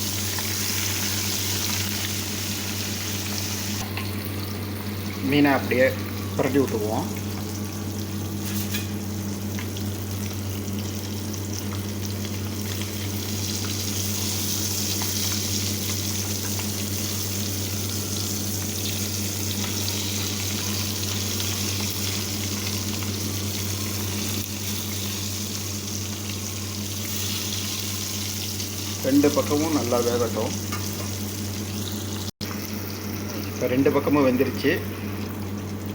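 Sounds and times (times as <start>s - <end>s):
fish sizzling in oil: 0.0s - 5.1s, 7.2s - 34.0s.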